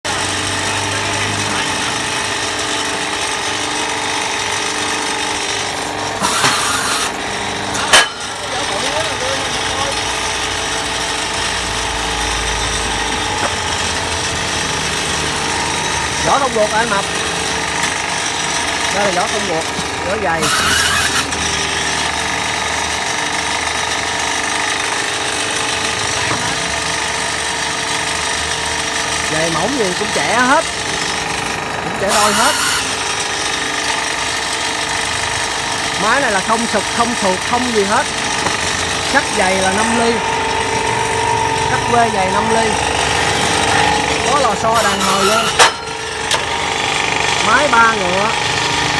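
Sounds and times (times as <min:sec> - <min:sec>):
tire-cutting machine whirring: 0:00.0 - 0:48.9.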